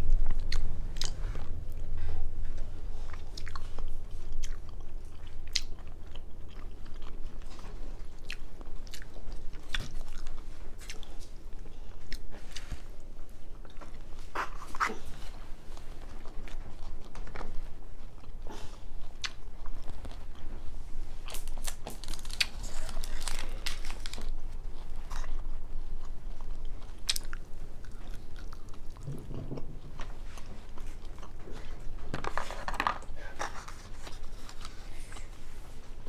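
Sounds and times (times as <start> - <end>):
person chewing food: 0.0 - 35.9.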